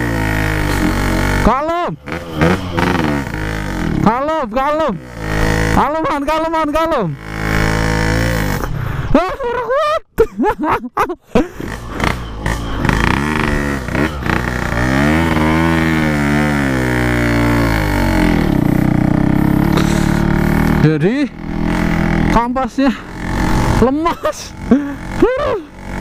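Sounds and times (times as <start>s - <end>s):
two-stroke engine labouring: 0.0s - 9.4s, 11.3s - 26.0s.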